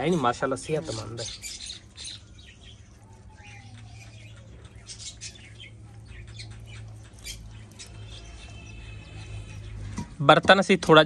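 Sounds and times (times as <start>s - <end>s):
bird chirps: 0.0s - 10.2s.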